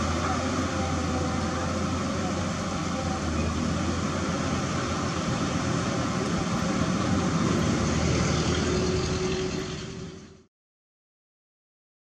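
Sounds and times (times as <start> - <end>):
excavator diesel engine running: 0.0 - 10.5.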